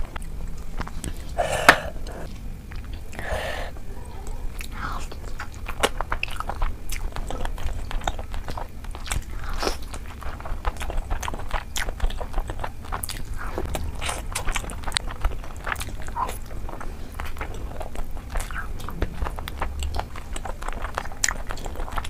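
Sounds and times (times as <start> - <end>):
chewing with wet mouth clicks: 0.0 - 3.2, 4.1 - 22.0
steady low hum: 0.0 - 22.0.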